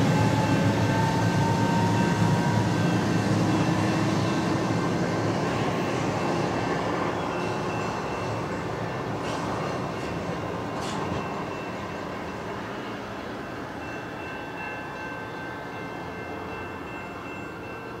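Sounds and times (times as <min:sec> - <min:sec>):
train rail rumble: 0:00.0 - 0:18.0.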